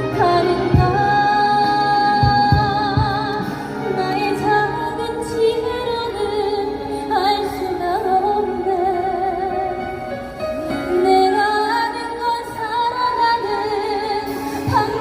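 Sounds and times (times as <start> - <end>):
woman singing with vibrato: 0.0 - 10.1, 10.7 - 15.0
backing music: 0.0 - 15.0.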